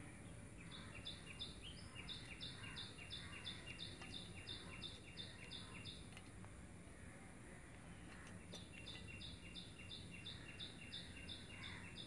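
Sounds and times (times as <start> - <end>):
faint outdoor hum: 0.0 - 12.0.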